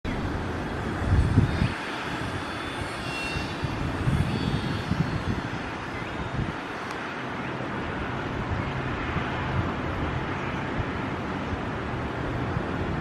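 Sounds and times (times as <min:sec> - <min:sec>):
wind buffeting the microphone: 0:00.1 - 0:13.0.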